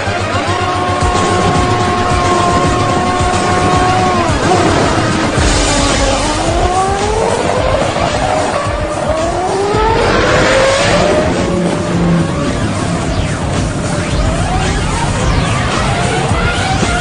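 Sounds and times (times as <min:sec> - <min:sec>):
racing engines accelerating: 0:00.0 - 0:17.0.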